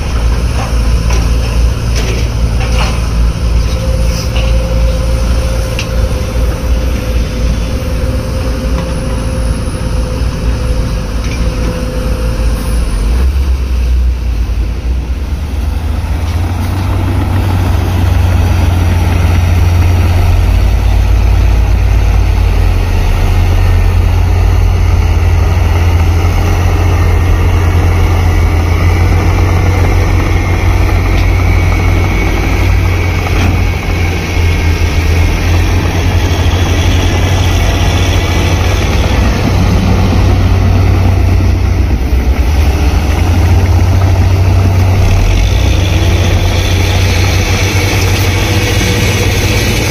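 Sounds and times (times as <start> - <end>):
heavy machine engine droning: 0.0 - 49.9.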